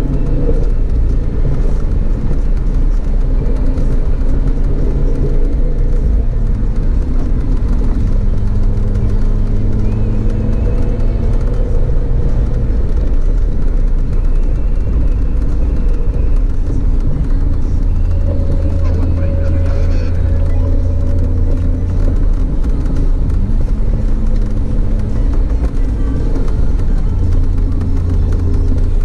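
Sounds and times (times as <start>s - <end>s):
car engine running: 0.0s - 29.0s
road and tyre rumble: 0.0s - 29.0s.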